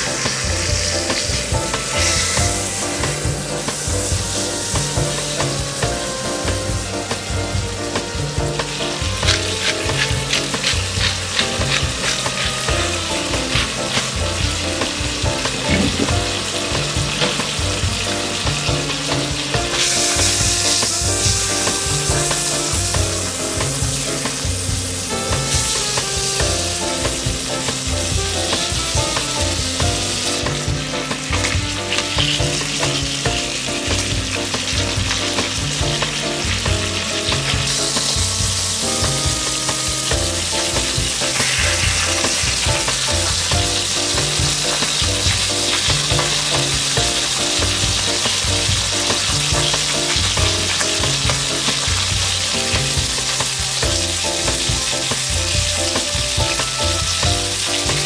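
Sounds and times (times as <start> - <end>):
food sizzling in a pan: 0.0 - 58.0
music with repeating bass line: 0.0 - 58.0.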